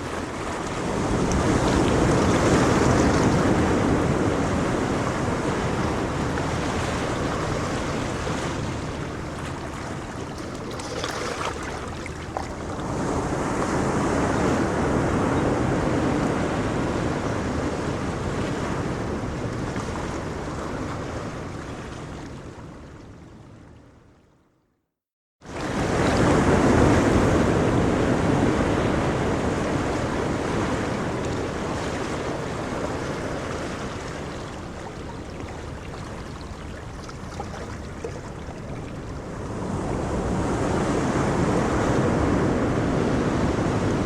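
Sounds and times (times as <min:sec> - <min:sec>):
ocean waves washing on shore: 0:00.0 - 0:23.2, 0:25.5 - 0:44.0.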